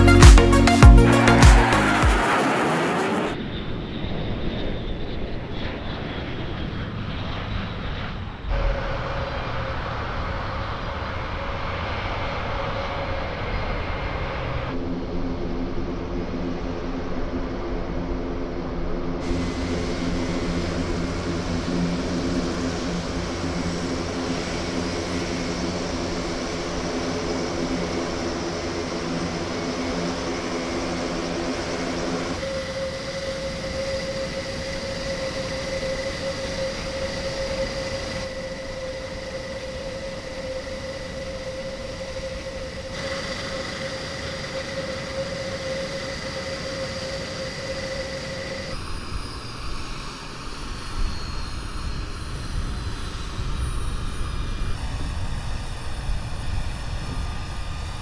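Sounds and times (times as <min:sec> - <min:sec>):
propeller drone: 0:00.0 - 0:58.0
turbine whine: 0:00.0 - 0:58.0.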